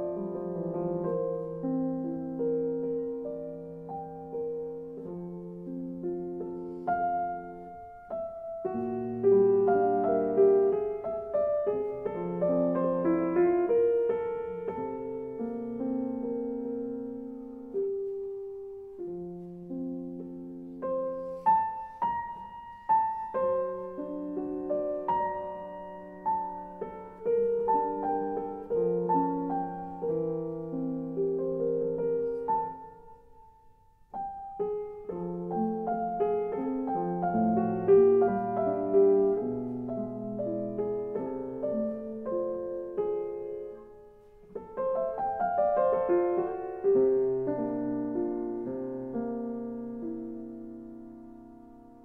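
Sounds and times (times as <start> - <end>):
slow piano music: 0.0 - 52.0.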